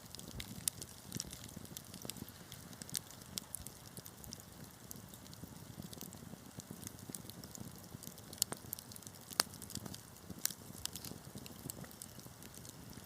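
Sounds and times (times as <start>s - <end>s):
low rumble of burning: 0.0s - 13.0s
wood fire crackling and popping: 0.0s - 13.0s.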